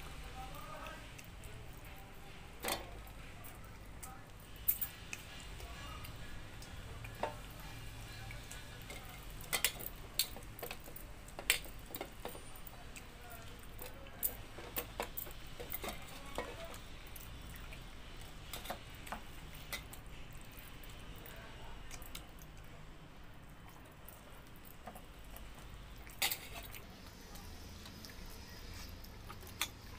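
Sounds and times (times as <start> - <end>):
chewing: 0.0 - 29.9.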